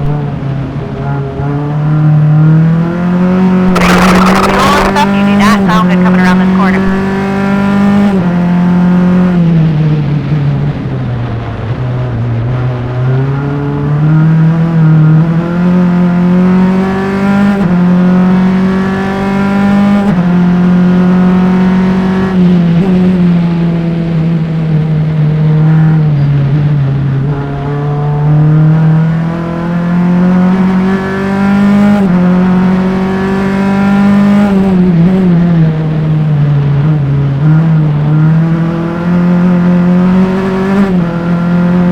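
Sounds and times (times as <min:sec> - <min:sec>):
race car engine: 0:00.0 - 0:41.9.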